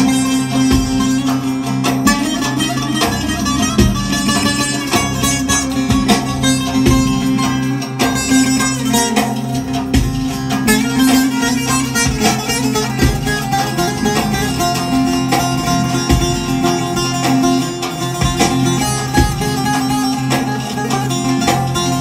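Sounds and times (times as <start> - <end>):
plucked lute folk melody: 0.0 - 22.0.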